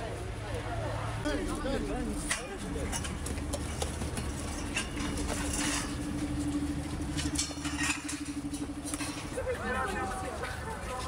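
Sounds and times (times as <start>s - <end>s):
steady hum: 1.3s - 11.0s.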